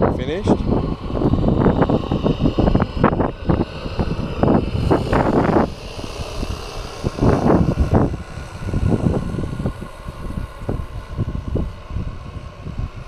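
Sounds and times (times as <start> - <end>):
model steam boat running: 0.0 - 13.0
wind buffeting microphone: 0.0 - 13.0.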